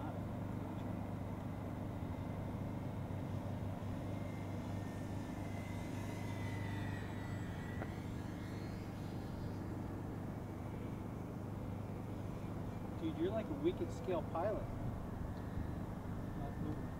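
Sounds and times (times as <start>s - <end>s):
electric motors and propellers whine: 0.0s - 16.9s
steady low hum: 0.0s - 16.9s.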